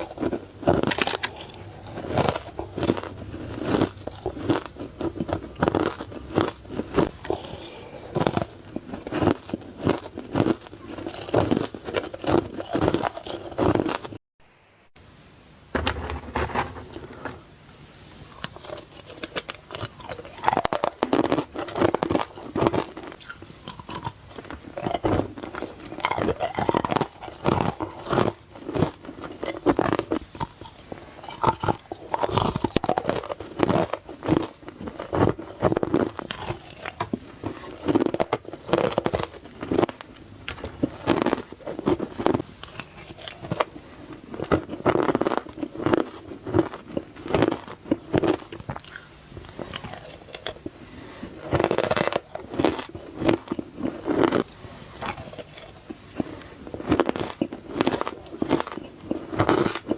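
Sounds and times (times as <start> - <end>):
ice crunching as bitten: 0.0 - 14.2, 18.4 - 59.9.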